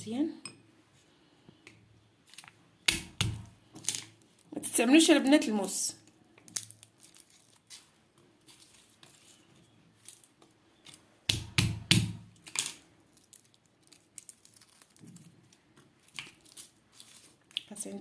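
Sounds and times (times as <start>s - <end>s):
garlic skins crackling: 2.2s - 11.6s, 12.3s - 18.0s.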